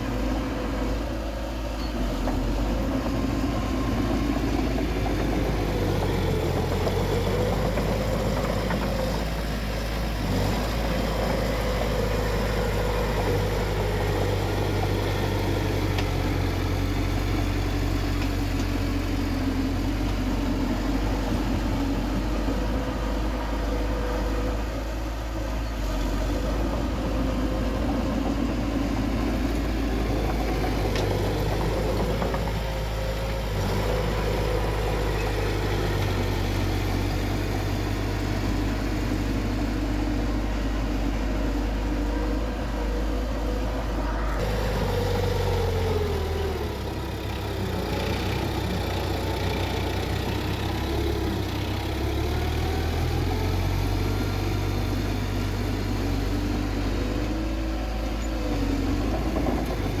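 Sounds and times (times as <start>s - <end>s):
bulldozer diesel engine working: 0.0s - 60.0s.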